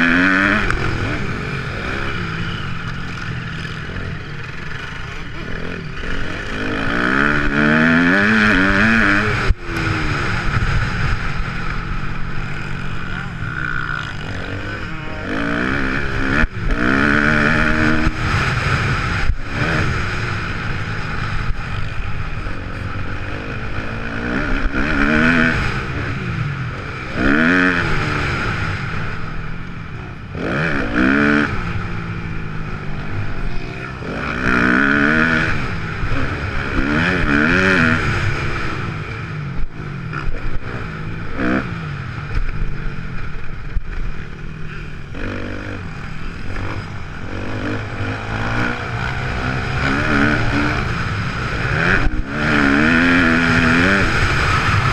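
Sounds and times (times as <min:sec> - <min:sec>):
motocross bike engine revving: 0:00.0 - 0:54.9.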